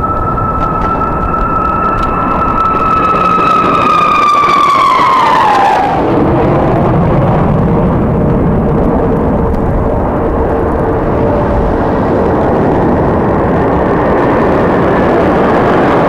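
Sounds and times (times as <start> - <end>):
jet engines passing overhead: 0.0 - 16.0.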